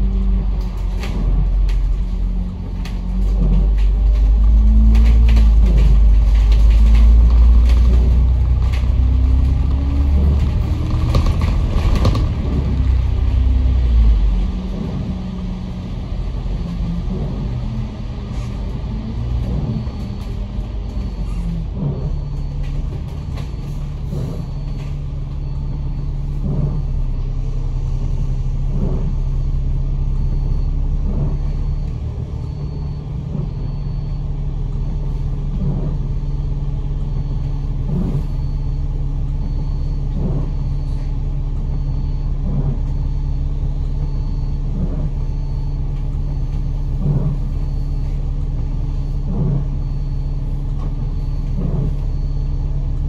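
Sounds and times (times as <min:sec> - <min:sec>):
bus engine humming: 0:00.0 - 0:53.0.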